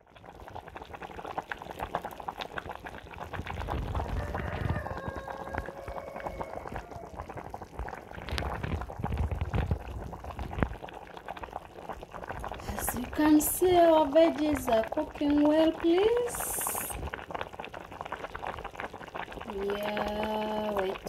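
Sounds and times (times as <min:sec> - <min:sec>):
pot boiling and bubbling: 0:00.0 - 0:21.0.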